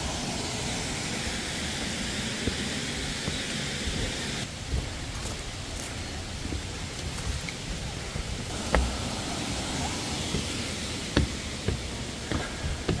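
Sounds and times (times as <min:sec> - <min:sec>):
mountain stream rushing: 0:00.0 - 0:13.0
footsteps on wooden steps: 0:01.8 - 0:07.6, 0:08.4 - 0:13.0.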